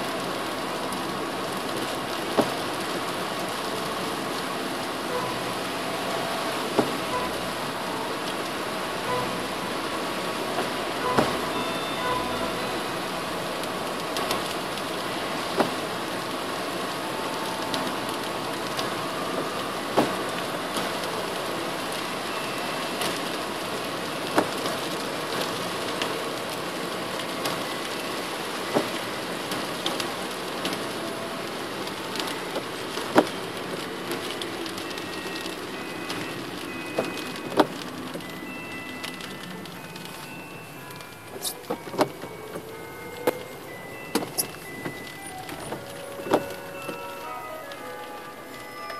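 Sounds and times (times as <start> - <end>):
rain and tyre spray: 0.0 - 48.9.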